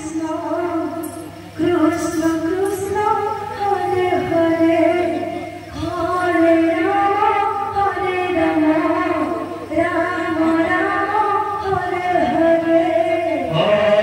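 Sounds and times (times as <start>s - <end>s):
women singing devotional song: 0.0s - 14.0s.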